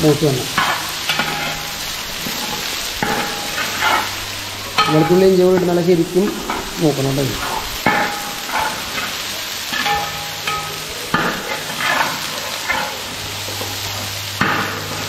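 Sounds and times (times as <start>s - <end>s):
garlic sizzling in oil: 0.0s - 15.0s
scraping strokes in pan: 0.5s - 15.0s.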